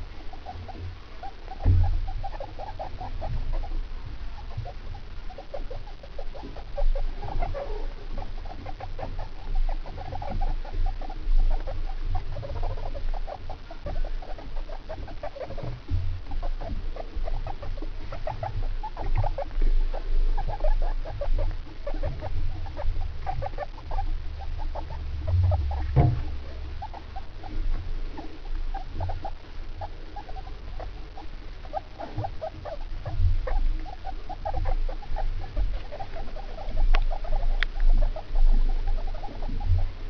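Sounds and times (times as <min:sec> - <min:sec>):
guinea pigs calling: 0:00.0 - 0:40.0.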